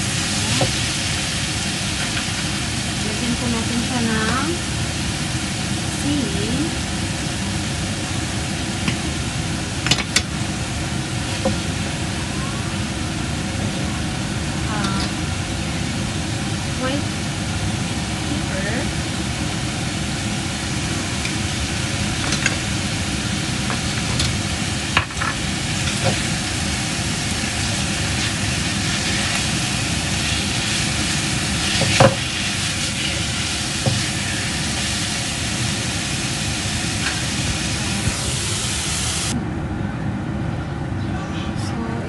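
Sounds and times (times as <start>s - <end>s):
chicken sizzling in a frying pan: 0.0s - 39.4s.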